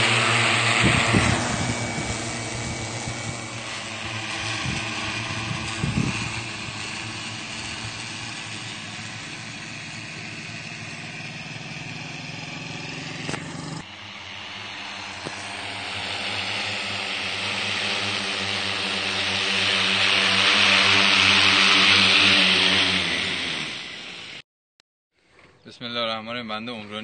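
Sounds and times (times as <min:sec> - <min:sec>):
drone rotors humming: 0:00.0 - 0:24.4.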